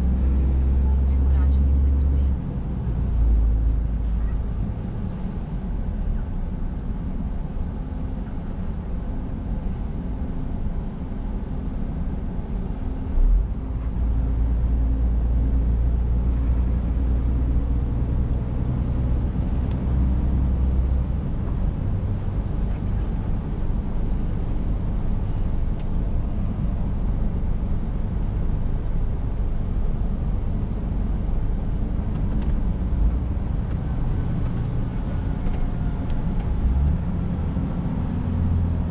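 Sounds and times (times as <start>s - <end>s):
diesel truck engine drone: 0.0s - 38.9s
road and tyre noise: 0.0s - 38.9s.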